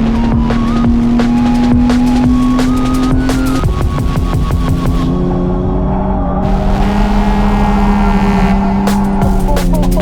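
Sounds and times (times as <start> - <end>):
electronic music: 0.0 - 5.2, 6.4 - 10.0.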